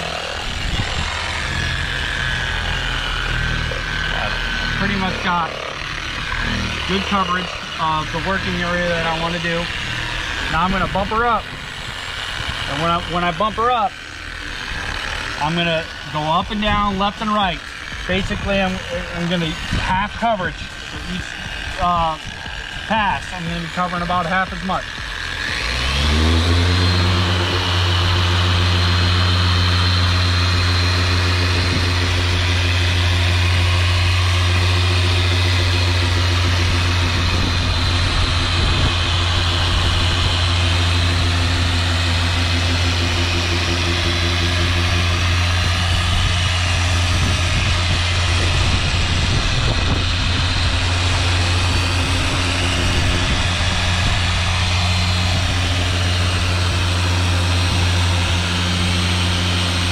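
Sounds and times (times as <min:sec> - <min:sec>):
polisher motor hum: 0:00.0 - 0:59.9.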